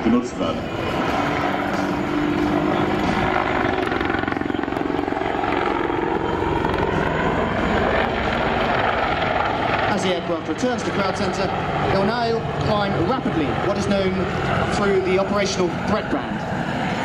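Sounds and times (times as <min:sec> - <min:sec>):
helicopter rotor beating: 0:00.0 - 0:17.0
turbine engines whining: 0:00.0 - 0:17.0.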